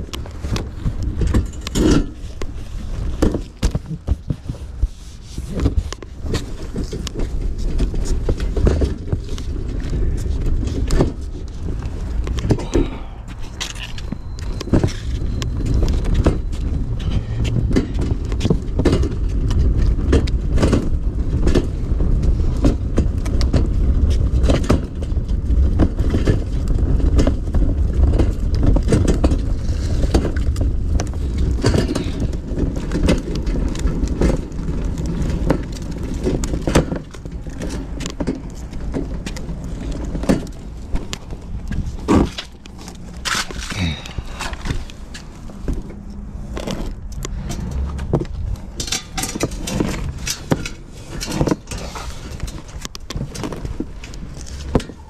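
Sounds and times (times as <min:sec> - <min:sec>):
rattles and knocks: 0:00.0 - 0:55.0
truck engine and road rumble: 0:00.0 - 0:55.0.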